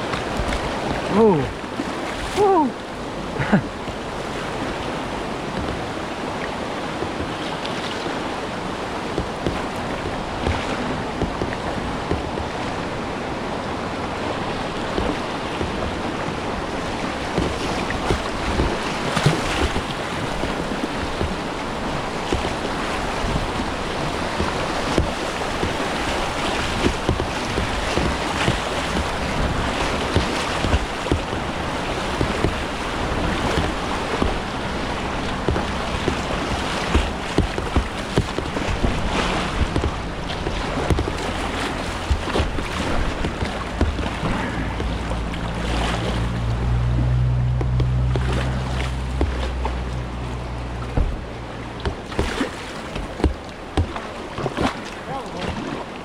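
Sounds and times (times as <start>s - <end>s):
rushing whitewater: 0.0s - 56.0s
water splashes: 0.0s - 56.0s.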